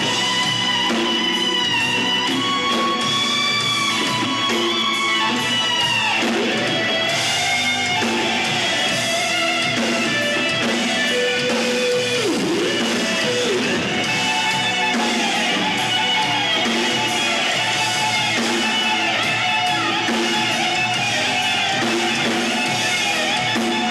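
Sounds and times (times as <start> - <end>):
electric guitar lead bending: 0.0 - 23.9
rock band playing live: 0.0 - 23.9.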